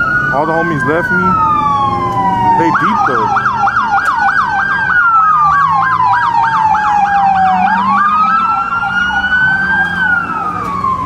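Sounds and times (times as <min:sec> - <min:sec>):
siren wailing: 0:00.0 - 0:11.0
siren yelping: 0:00.0 - 0:11.0.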